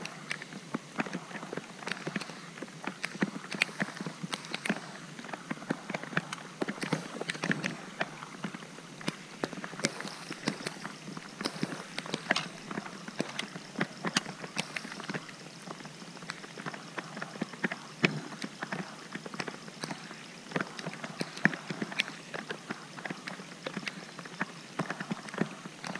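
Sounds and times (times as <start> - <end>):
rain hissing on water: 0.0 - 25.9
raindrops ticking: 0.0 - 25.9.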